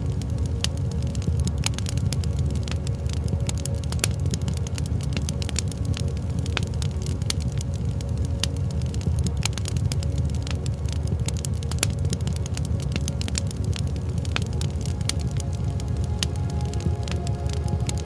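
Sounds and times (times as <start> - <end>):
low rumble of burning fire: 0.0 - 18.0
wood fire crackling: 0.0 - 18.0.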